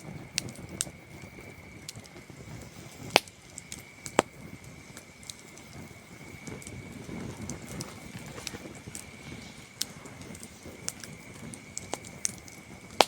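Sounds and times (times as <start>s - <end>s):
campfire crackling and popping: 0.0s - 13.0s
crickets trilling: 0.0s - 13.0s.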